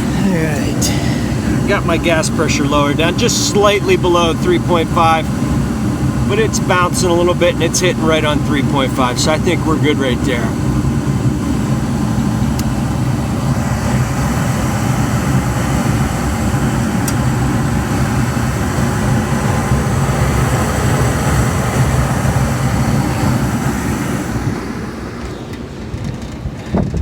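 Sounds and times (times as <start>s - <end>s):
fan air rushing: 0.0s - 27.0s
rooftop heating unit humming: 0.0s - 27.0s.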